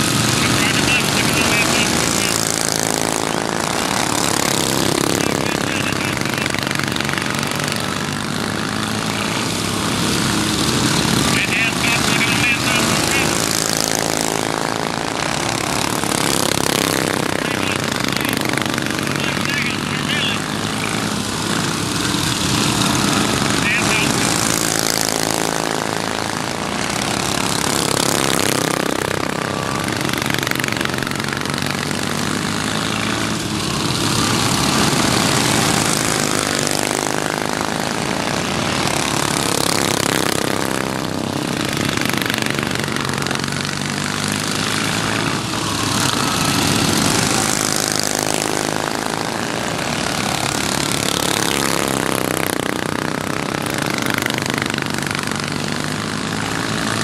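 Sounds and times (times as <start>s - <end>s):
racing lawnmower engines passing: 0.0s - 57.0s.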